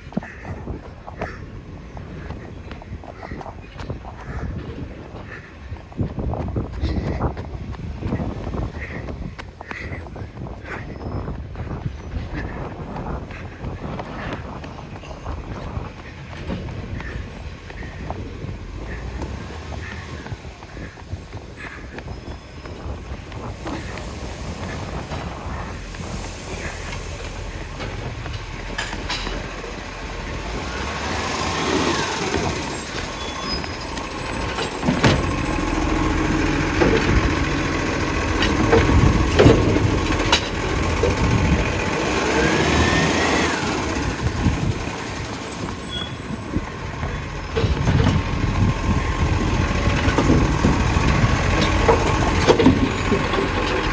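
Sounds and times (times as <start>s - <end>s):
garbage truck engine: 0.0s - 5.9s, 9.7s - 53.9s.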